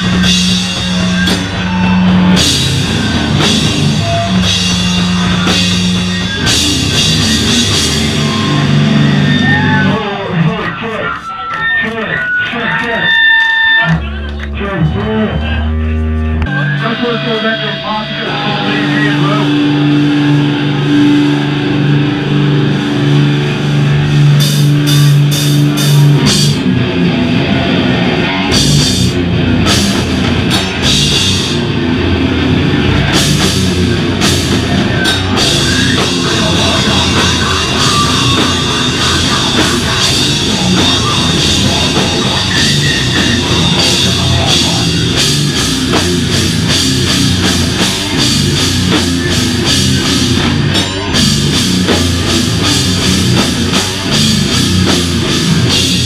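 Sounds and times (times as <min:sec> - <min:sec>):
distorted guitars: 0:00.0 - 0:56.0
hardcore band playing: 0:00.0 - 0:56.0.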